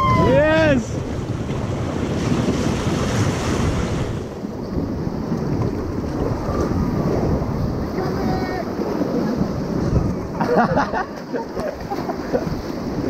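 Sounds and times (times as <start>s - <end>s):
rushing river rapid: 0.0s - 13.0s
wind buffeting microphone: 0.0s - 13.0s.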